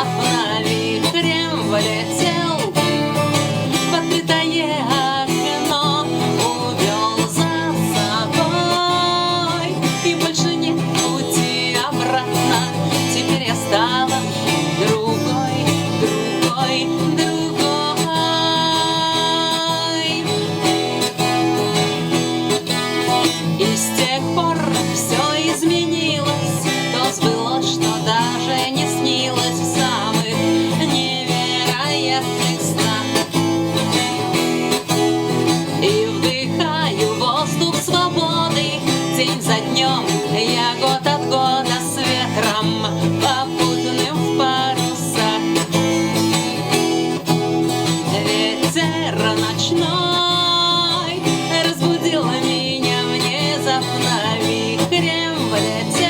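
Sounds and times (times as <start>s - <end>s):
acoustic guitar accompaniment: 0.0s - 56.0s
woman singing: 0.0s - 56.0s.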